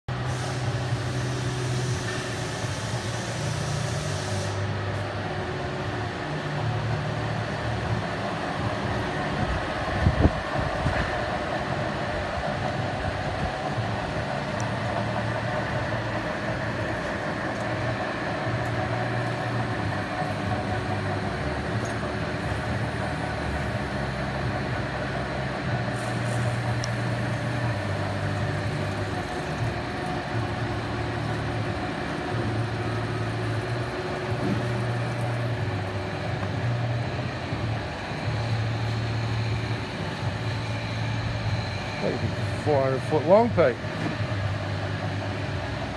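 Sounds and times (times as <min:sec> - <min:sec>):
workshop machinery hum: 0:00.0 - 0:45.9.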